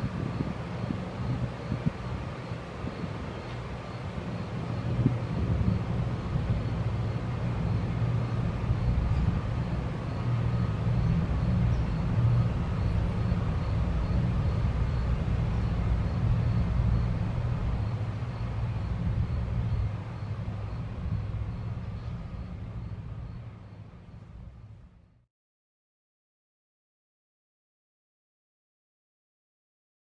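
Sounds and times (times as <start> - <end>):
engine rumbling: 0.0 - 25.0.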